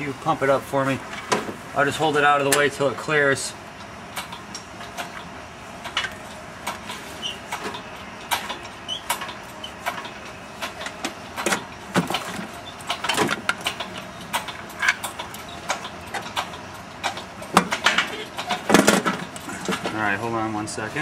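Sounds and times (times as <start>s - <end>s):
hydraulic crane clicks and clanks: 2.3s - 2.9s, 3.7s - 20.6s.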